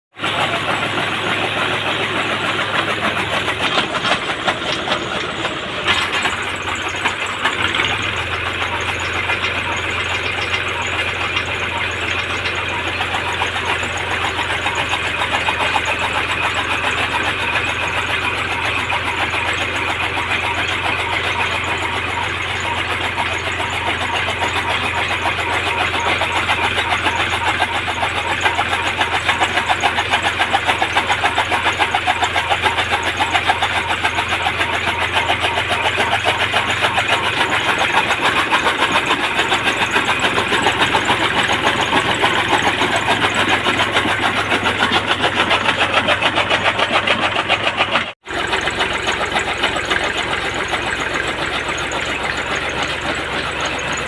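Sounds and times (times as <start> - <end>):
tractor diesel engine chugging: 0.1 - 54.0.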